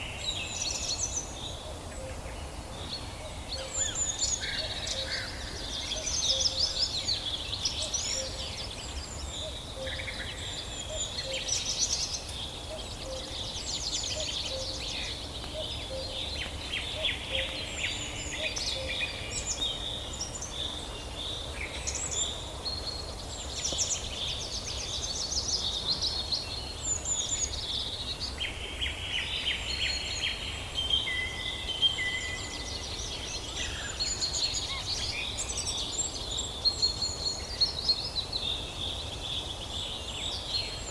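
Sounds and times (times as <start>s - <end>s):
low background noise: 0.0s - 40.9s
songbirds chirping and trilling: 0.0s - 40.9s.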